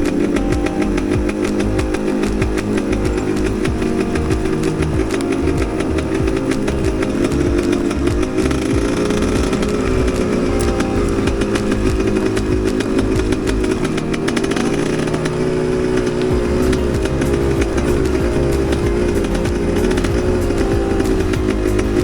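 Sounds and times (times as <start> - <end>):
motorcycle engine running: 0.0 - 22.0
sharp clicks and knocks: 0.0 - 22.0.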